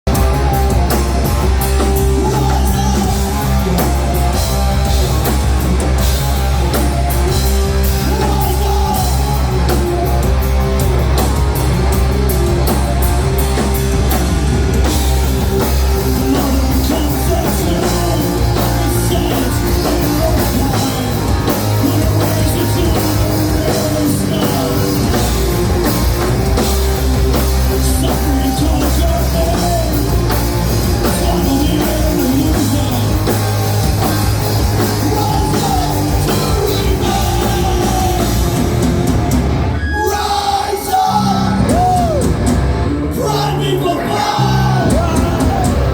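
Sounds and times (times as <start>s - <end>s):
drums and cymbals: 0.0s - 45.9s
rock band playing: 0.0s - 45.9s.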